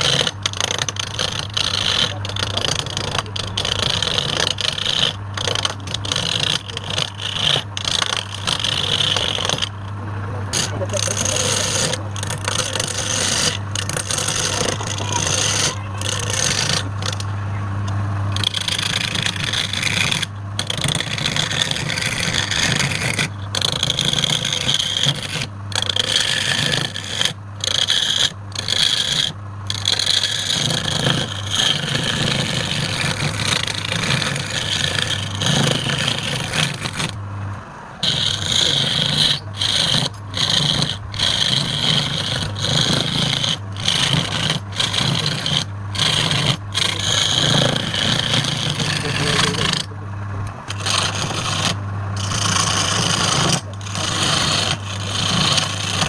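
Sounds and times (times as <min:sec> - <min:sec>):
tool rasping on spinning wood: 0:00.0 - 0:17.3, 0:18.3 - 0:37.3, 0:38.0 - 0:56.0
wood lathe humming: 0:00.0 - 0:56.0.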